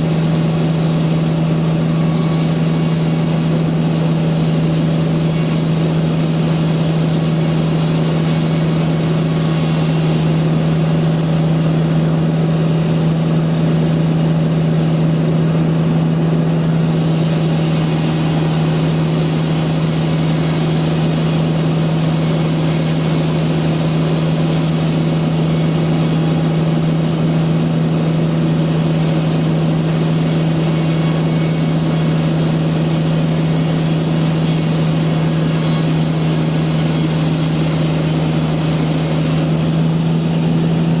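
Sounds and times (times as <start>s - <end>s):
sawmill machinery humming: 0.0s - 41.0s.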